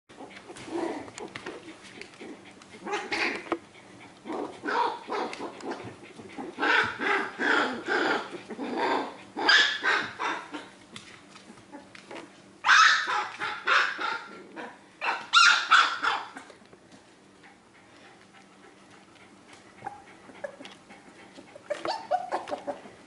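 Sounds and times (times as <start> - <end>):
dogs yipping and whining: 0.1 - 10.8, 11.4 - 16.6, 19.6 - 23.0.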